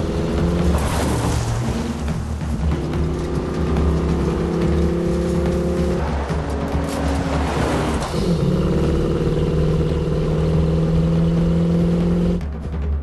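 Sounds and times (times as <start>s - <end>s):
car engine revving high: 0.0s - 12.4s.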